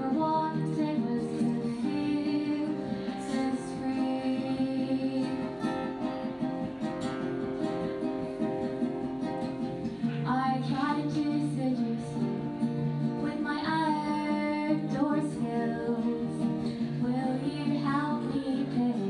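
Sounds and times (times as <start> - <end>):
person singing: 0.0 - 19.0
strummed acoustic guitar: 0.0 - 19.0.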